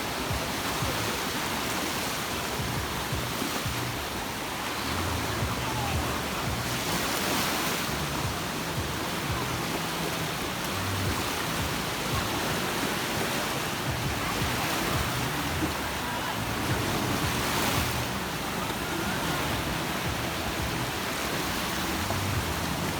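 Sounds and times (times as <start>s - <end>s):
sea waves washing on beach: 0.0s - 22.9s.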